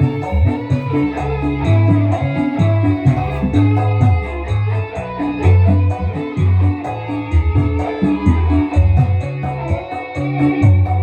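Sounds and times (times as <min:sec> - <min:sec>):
bass line: 0:00.0 - 0:11.0
electric guitar melody: 0:00.0 - 0:11.0.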